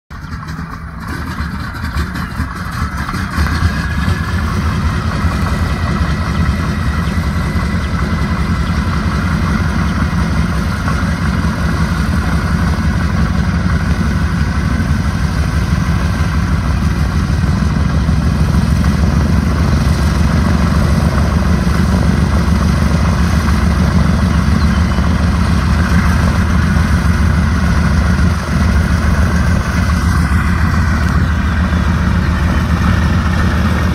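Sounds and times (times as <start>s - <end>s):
radial aircraft engines idling: 0.1s - 33.9s.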